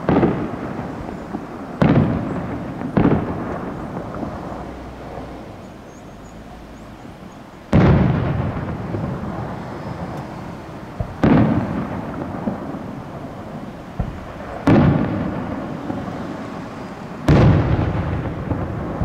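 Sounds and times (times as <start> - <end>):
fireworks bursting with loud bangs: 0.0 - 19.0.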